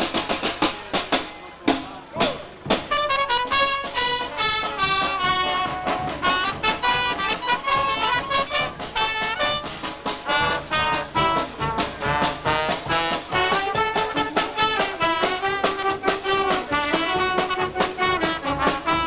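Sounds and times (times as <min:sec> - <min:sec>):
brass street band playing: 0:00.0 - 0:19.0
steady regular beat: 0:00.0 - 0:19.0.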